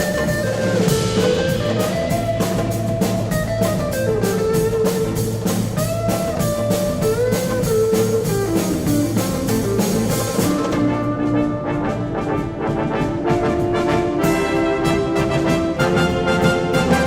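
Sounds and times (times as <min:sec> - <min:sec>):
bass: 0:00.0 - 0:17.0
drum beat: 0:00.0 - 0:17.0
lead electric guitar: 0:00.0 - 0:17.0.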